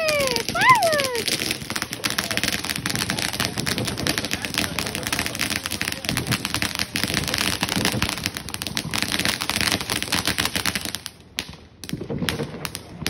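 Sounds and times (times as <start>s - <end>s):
firework pops: 0.0s - 10.8s, 11.4s - 13.0s
firework crackling: 0.0s - 13.0s.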